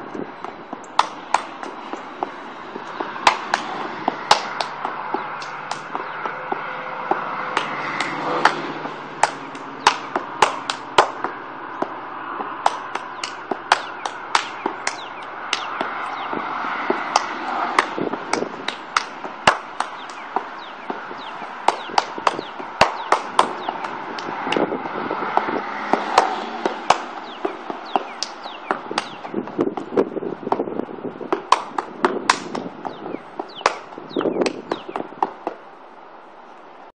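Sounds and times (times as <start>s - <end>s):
sneakers tapping on asphalt: 0.0s - 35.8s.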